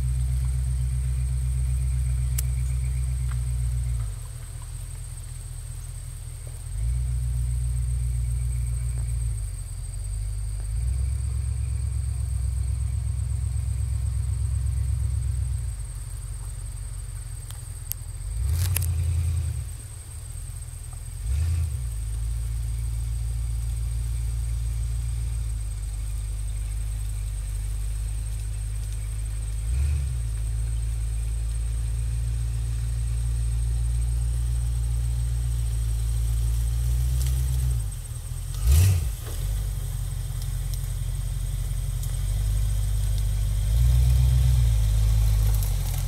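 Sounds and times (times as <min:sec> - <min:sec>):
off-road vehicle engine revving: 0:00.0 - 0:46.0.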